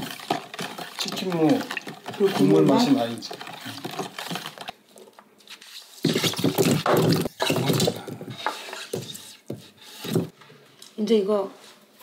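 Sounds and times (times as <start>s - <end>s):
wooden spoon stirring liquid: 0.0s - 10.6s.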